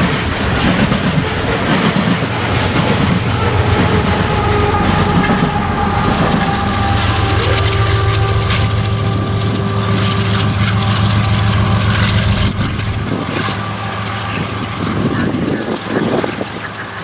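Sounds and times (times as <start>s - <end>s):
locomotive engine drone: 0.0s - 17.0s
train rolling rumble: 0.0s - 17.0s.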